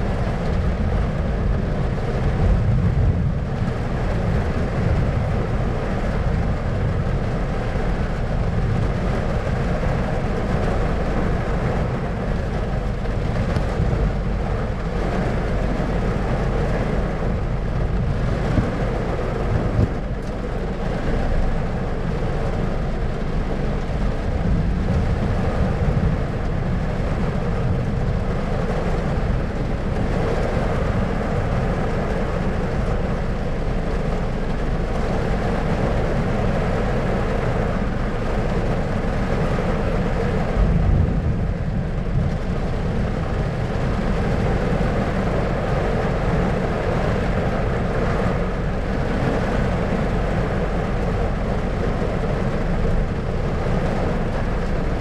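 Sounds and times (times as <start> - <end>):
low rumble of thunder: 0.0 - 55.0
steady rain: 0.0 - 55.0.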